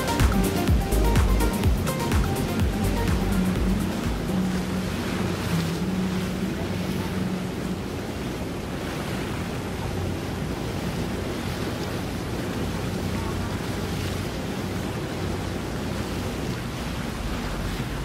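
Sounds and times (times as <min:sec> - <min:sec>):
water washing: 0:00.0 - 0:18.0.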